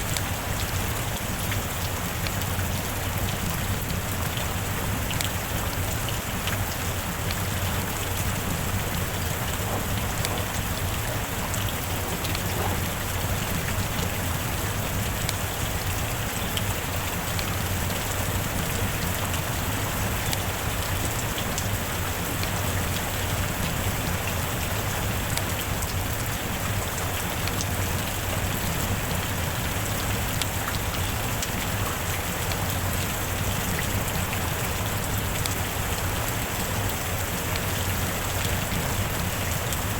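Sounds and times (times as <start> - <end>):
heavy rain falling: 0.0 - 39.9
rain drops ticking: 0.0 - 39.9.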